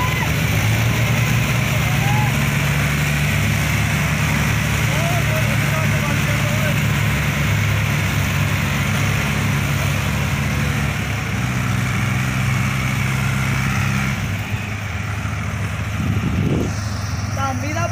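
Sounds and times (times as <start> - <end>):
tractor engines droning under load: 0.0 - 17.9.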